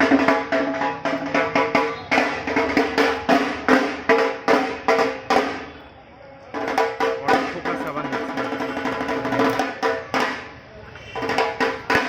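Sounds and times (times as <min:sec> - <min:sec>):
drum beaten in fast rhythm: 0:00.0 - 0:05.8, 0:06.5 - 0:12.0.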